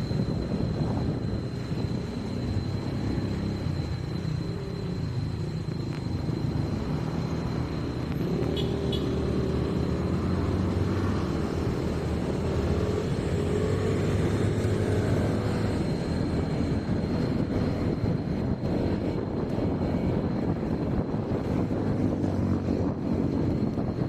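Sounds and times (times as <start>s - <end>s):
road noise: 0.0s - 24.0s
vehicle engine rumble: 0.0s - 24.0s.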